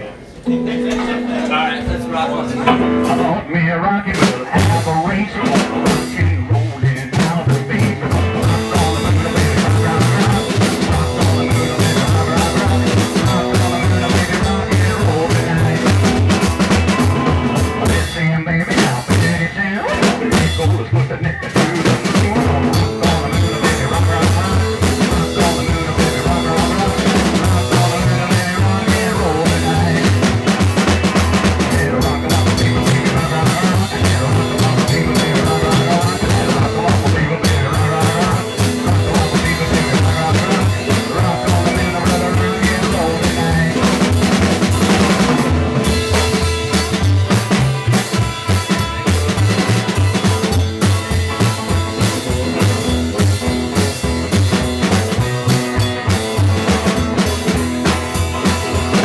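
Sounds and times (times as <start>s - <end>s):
rock and roll band playing: 0.4s - 59.0s
washtub bass line: 0.4s - 59.0s
steady drum beat: 0.9s - 59.0s.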